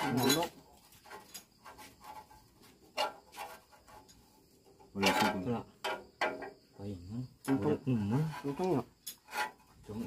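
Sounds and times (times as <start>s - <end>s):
metal tools clicking and scraping: 0.0s - 6.6s, 8.3s - 10.0s.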